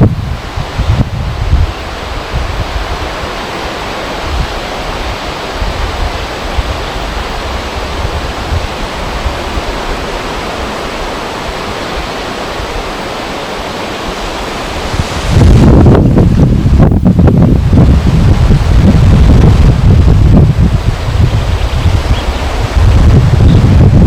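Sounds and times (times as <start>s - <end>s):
wind and water rushing: 0.0s - 24.0s
wind buffeting microphone: 0.0s - 24.0s.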